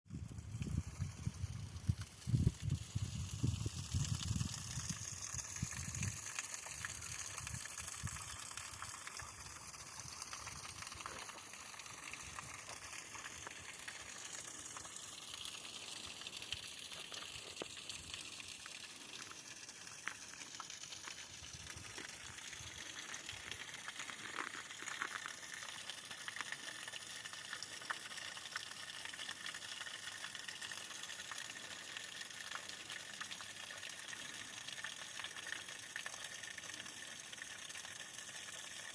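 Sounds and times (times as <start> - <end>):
water pouring over ice: 0.2 - 38.9.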